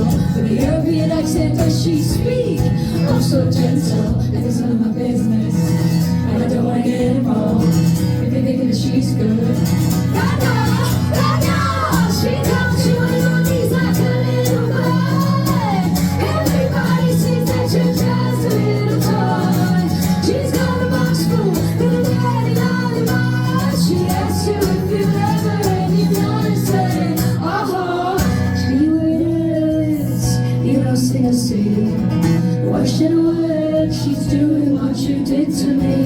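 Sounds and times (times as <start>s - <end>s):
wordless singing: 0.0s - 30.0s, 30.6s - 36.0s
live pop-rock band: 0.0s - 36.0s.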